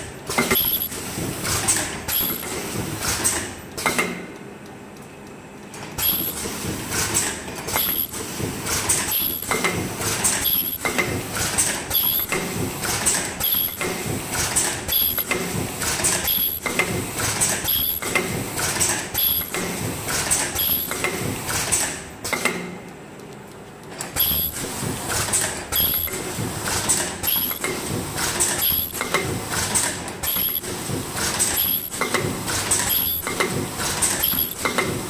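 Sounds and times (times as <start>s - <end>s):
machine mechanical and pneumatic clicks: 0.0s - 35.0s.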